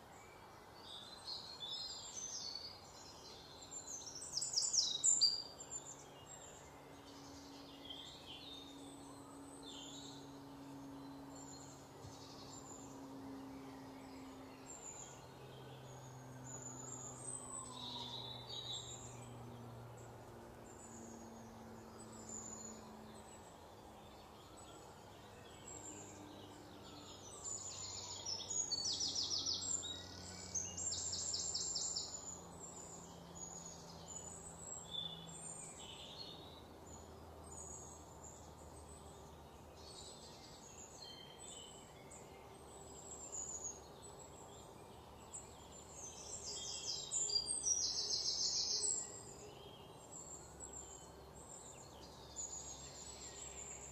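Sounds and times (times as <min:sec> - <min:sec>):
low steady background hum: 0:00.0 - 0:53.9.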